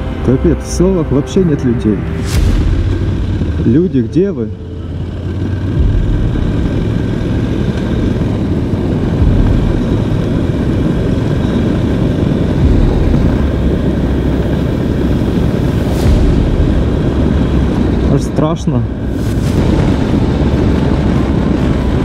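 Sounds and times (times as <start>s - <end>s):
motorcycle engine drone: 0.0s - 22.0s
wind rumble on microphone: 0.0s - 22.0s.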